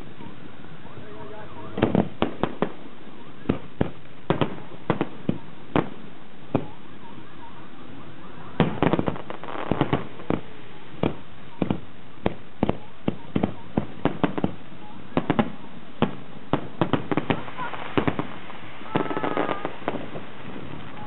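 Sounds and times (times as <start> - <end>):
firework bangs: 0.0 - 21.0.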